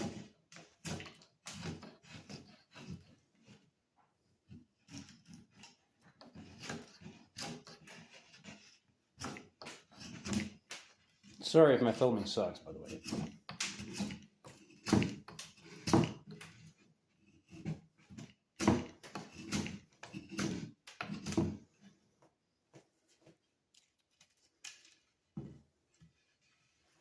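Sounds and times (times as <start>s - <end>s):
handling knocks and scrapes: 0.0s - 27.0s.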